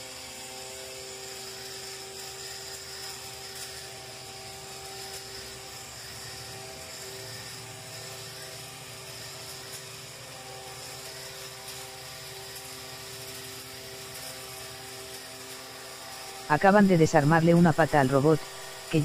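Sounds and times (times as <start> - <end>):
toy robot motor whirring: 0.0 - 19.0.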